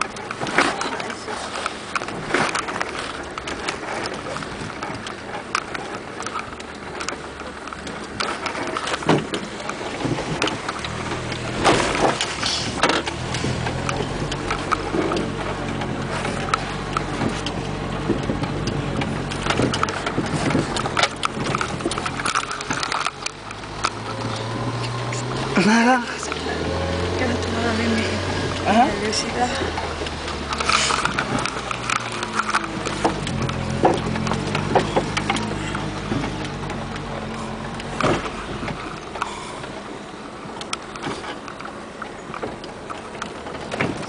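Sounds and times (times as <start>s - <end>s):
low motor hum: 0.0s - 44.0s.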